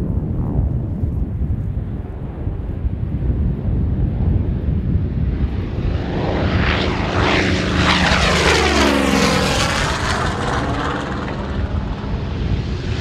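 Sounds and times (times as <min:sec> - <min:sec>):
propeller plane passing overhead: 0:02.0 - 0:13.0.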